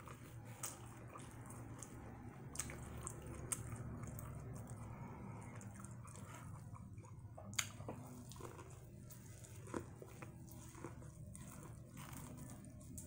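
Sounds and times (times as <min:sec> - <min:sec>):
chewing corn on the cob: 0:00.0 - 0:13.0.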